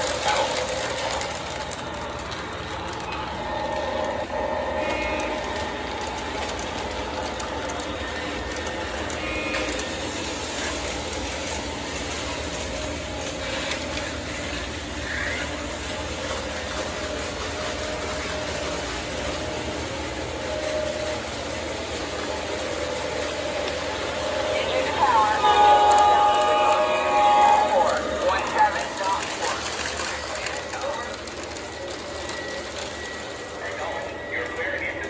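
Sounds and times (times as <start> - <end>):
model train motors whirring: 0.0 - 35.0
wheels clattering on rails: 0.0 - 35.0.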